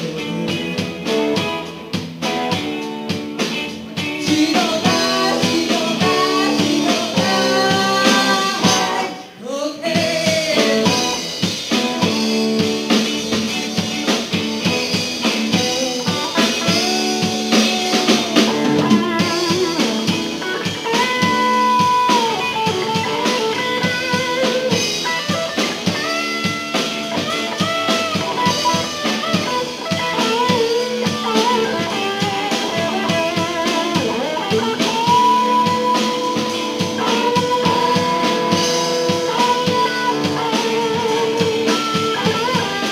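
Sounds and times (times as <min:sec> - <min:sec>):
drum kit: 0:00.0 - 0:42.9
lead electric guitar with bends: 0:00.0 - 0:42.9.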